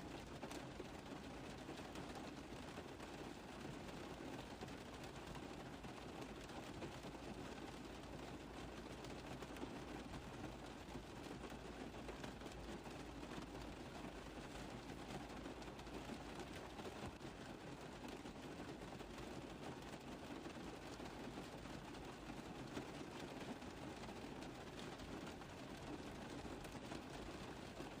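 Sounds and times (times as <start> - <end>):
rain tapping on a car roof: 0.0 - 28.0.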